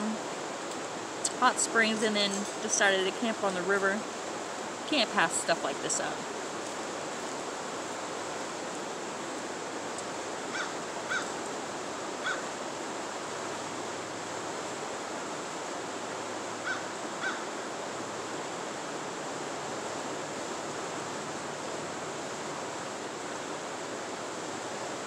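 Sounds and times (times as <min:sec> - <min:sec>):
river rushing over rapids: 0:00.0 - 0:25.0.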